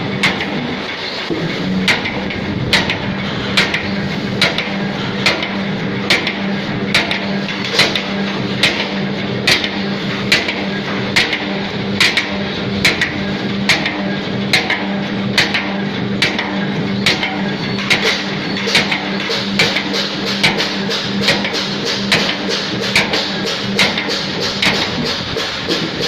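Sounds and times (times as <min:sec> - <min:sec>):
machine hum: 0:00.0 - 0:26.0
punch press metallic strokes: 0:00.0 - 0:26.0.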